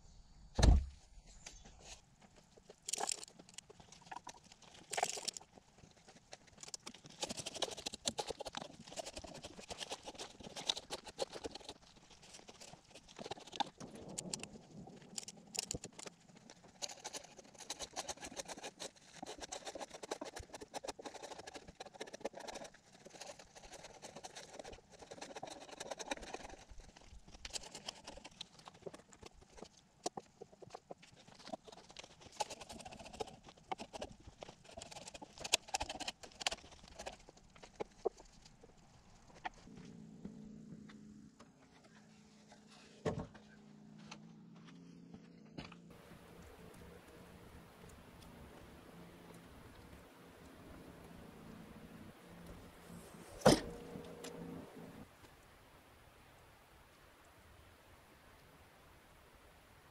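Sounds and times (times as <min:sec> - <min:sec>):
scraping and rustling: 0:01.3 - 0:40.0, 0:45.8 - 0:55.1.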